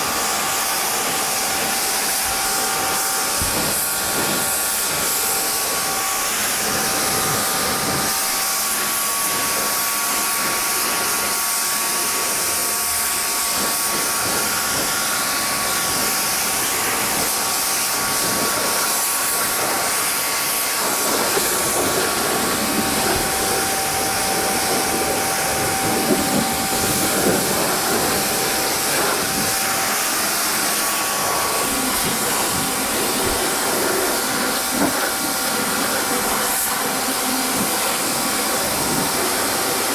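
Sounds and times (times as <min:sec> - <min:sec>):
faint steady whine: 0:00.0 - 0:39.9
pressure washer spraying: 0:00.0 - 0:39.9.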